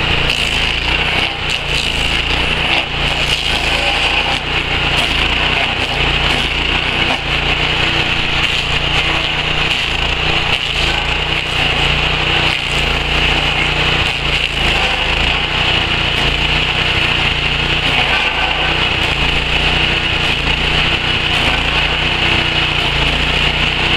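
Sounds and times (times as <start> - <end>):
cutter wheel grinding wood: 0.0 - 23.9
stump grinder engine humming: 0.0 - 23.9.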